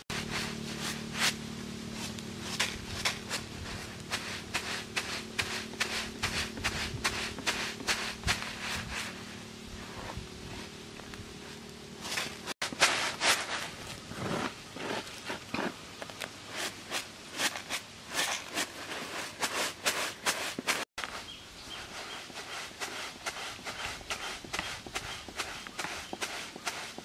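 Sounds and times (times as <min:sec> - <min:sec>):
flour rasping on bamboo tray: 0:00.0 - 0:27.0.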